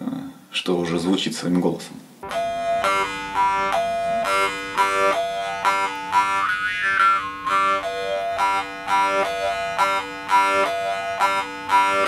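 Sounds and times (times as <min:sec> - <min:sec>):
jaw harp melody: 0:02.2 - 0:12.0.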